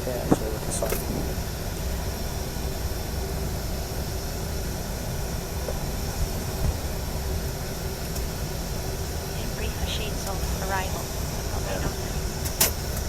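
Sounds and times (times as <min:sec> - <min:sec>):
faint steady hum: 0:00.0 - 0:13.0
rushing cockpit airflow: 0:00.0 - 0:13.0.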